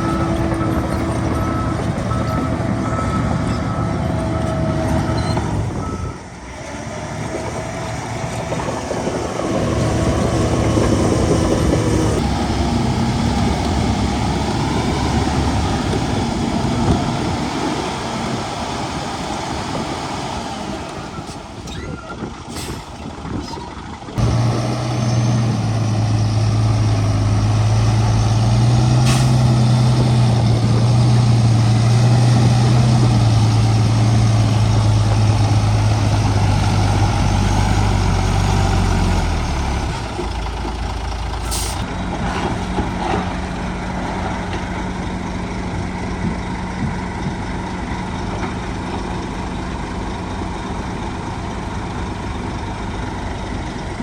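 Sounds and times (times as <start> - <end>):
louder engine low hum: 0.0 - 21.6, 24.0 - 54.0
heavy diesel engines running: 0.0 - 54.0.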